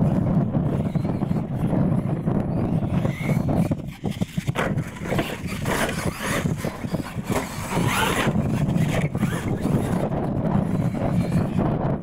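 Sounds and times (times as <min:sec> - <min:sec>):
tyre and chassis noise: 0:00.0 - 0:12.0
toy truck motor whining: 0:00.6 - 0:11.7.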